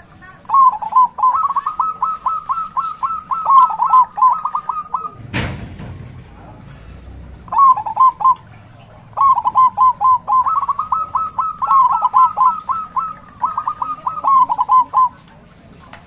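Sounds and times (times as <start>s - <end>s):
dove cooing: 0.0s - 5.4s, 6.3s - 16.0s.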